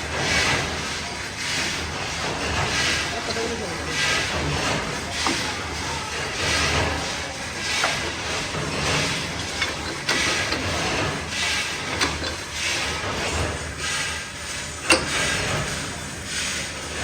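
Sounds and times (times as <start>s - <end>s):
factory machinery cycling: 0.0s - 17.0s.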